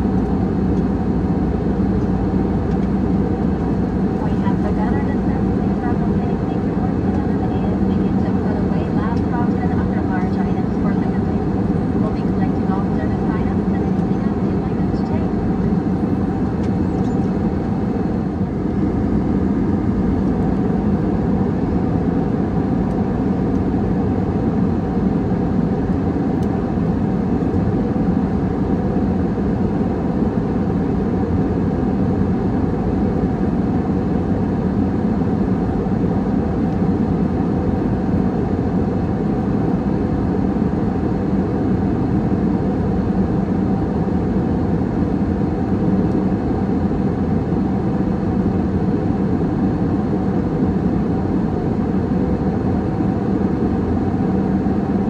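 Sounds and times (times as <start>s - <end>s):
faint steady hums: 0.0s - 55.0s
jet airliner cabin rumble: 0.0s - 55.0s.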